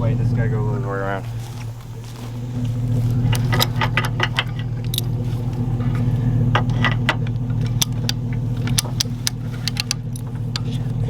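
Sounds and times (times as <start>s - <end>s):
vehicle engine idling: 0.0s - 11.0s
light metallic clicks: 1.3s - 10.9s.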